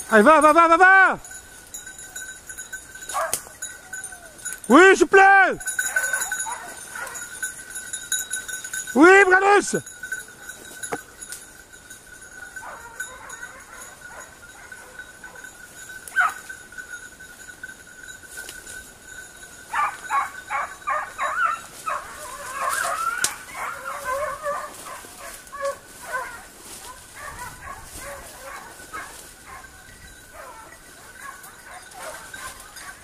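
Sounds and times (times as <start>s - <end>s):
hounds baying: 0.0s - 17.6s, 18.6s - 33.0s.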